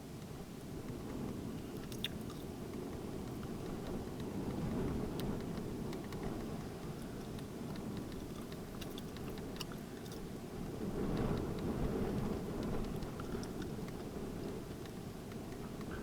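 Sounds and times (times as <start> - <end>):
faint ticks and crackles: 0.1 - 16.0.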